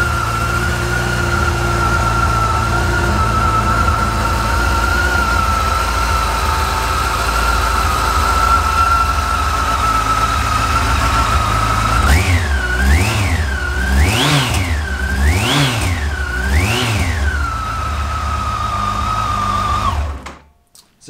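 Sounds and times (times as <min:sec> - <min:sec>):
motorcycle engine idling and revving: 0:00.0 - 0:20.5.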